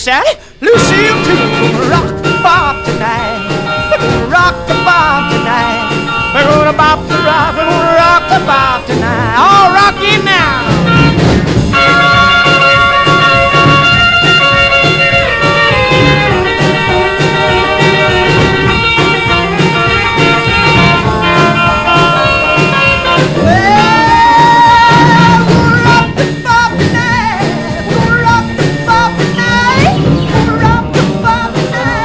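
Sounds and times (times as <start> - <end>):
bass: 0.0 - 32.0
drums: 0.0 - 32.0
rock and roll lead instrument solo: 0.7 - 32.0.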